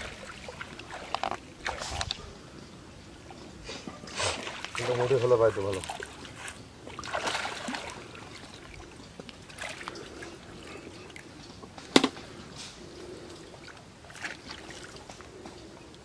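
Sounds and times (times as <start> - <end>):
water trickling and sloshing: 0.0 - 16.0.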